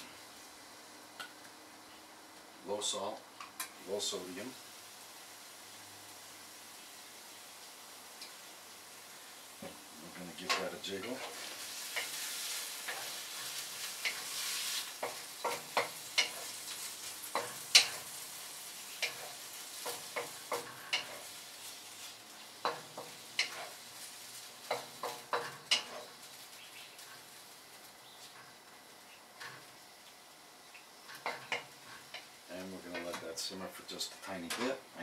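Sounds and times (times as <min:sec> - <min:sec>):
chicken sizzling in a wok: 0:00.0 - 0:33.9.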